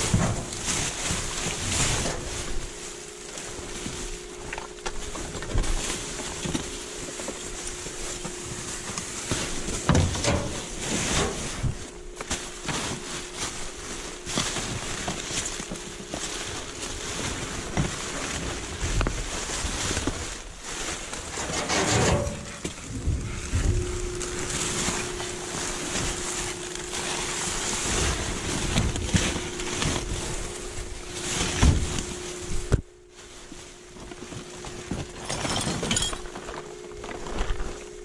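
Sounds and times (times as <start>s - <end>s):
faint hum: 0.0s - 38.0s
plastic bags rustling: 0.0s - 38.0s.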